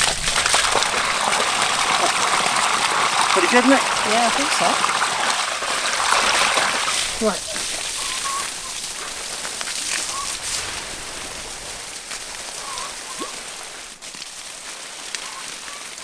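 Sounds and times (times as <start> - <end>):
water gushing from a pipe: 0.0 - 16.0
water splashing onto leaves: 0.0 - 16.0.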